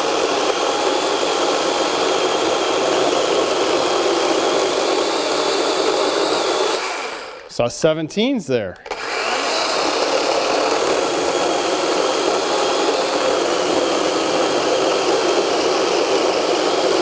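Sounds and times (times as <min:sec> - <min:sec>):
chainsaw cutting wood: 0:00.0 - 0:07.5, 0:08.8 - 0:17.0.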